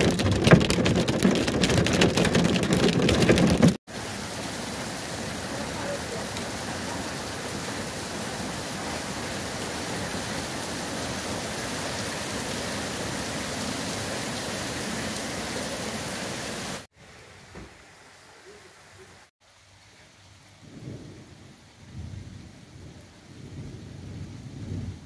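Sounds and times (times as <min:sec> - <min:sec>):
torrential rain and hail: 0:00.0 - 0:16.9, 0:17.5 - 0:25.0.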